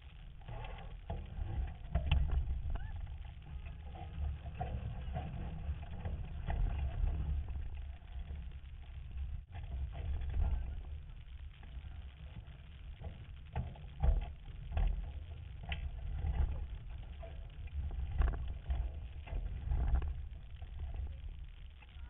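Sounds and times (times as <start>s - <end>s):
sailing boats knocking and clattering: 0.0s - 22.0s.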